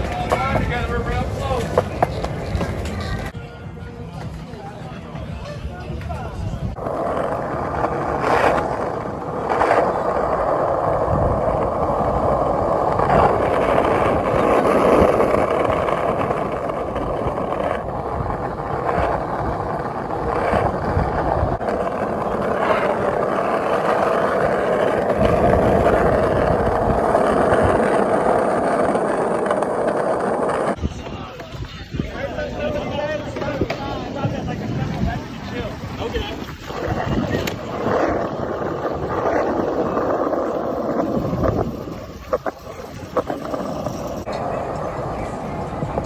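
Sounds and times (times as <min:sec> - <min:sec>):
skate wheels rolling on pavement: 0:00.0 - 0:46.0.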